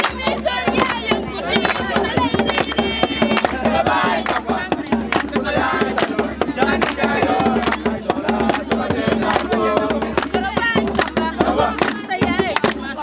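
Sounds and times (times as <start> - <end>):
rapid drumming: 0.0 - 13.0
voices singing: 0.0 - 13.0.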